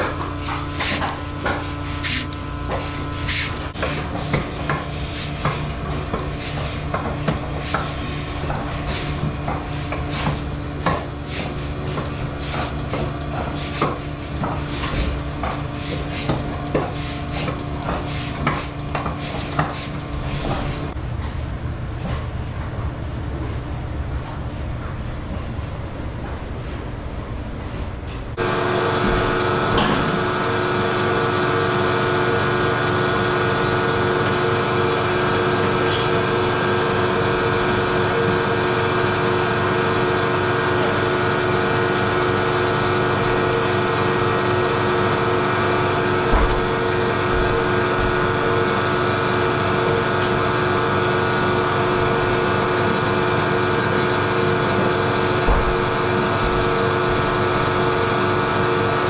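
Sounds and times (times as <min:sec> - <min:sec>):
rough farm machine noise: 0:00.0 - 0:21.0, 0:28.4 - 0:59.0
steady engine hum: 0:00.0 - 0:23.0, 0:28.3 - 0:59.0.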